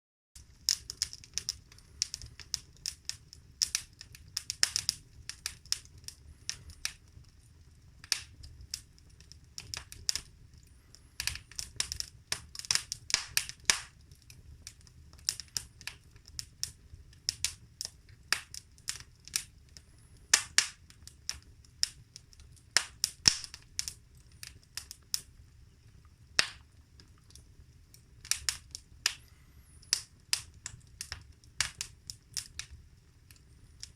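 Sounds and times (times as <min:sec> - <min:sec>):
low rumble of flames: 0:00.4 - 0:33.9
wood fire crackling and popping: 0:00.4 - 0:33.9.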